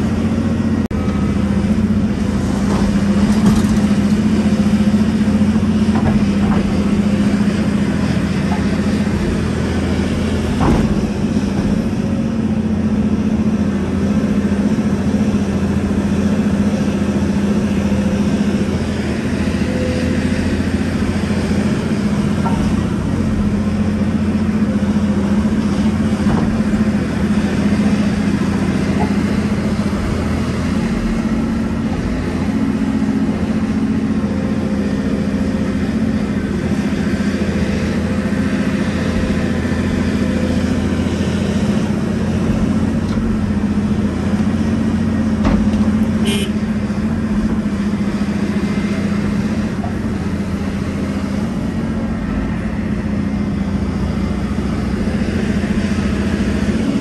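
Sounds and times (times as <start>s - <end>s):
excavator diesel engine humming: 0.0s - 57.0s.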